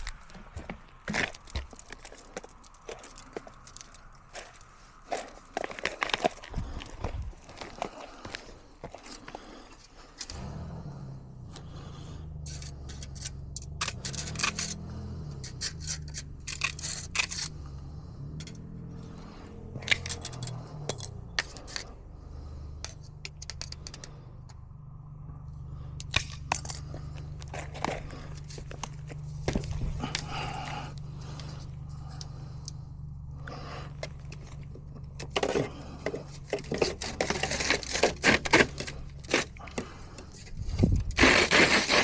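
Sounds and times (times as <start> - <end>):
metal clicks and scrapes: 0.0 - 6.5, 9.0 - 10.5, 12.4 - 17.7, 18.3 - 24.6, 26.0 - 32.8, 33.5 - 42.0
low engine-like hum: 0.0 - 41.2.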